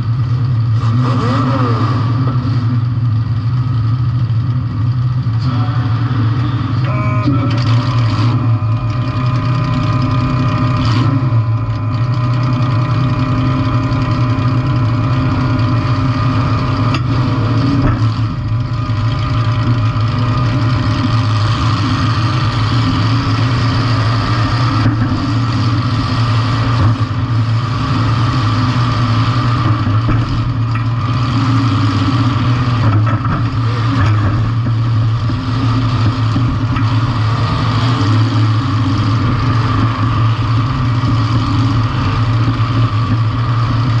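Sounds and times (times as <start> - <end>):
car engine running steadily: 0.0 - 44.0.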